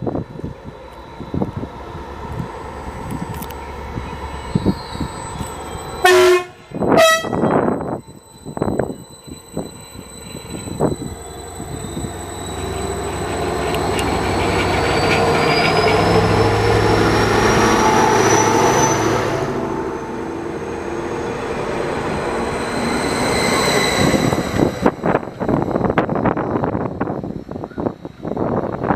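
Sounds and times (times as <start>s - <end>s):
high rising whine: 0.0s - 28.9s
train rumble: 0.0s - 28.9s.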